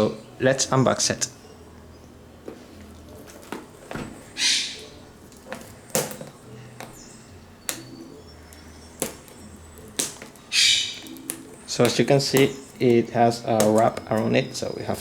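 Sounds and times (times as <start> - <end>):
plastic wrap crinkling: 1.8 - 15.0.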